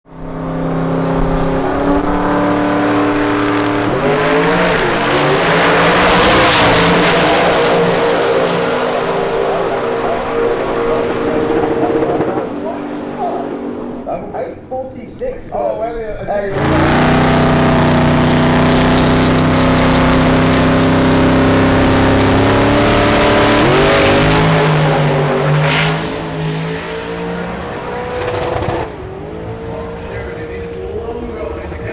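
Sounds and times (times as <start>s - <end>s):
drag racing car engine revving: 0.1s - 14.1s, 16.5s - 31.9s.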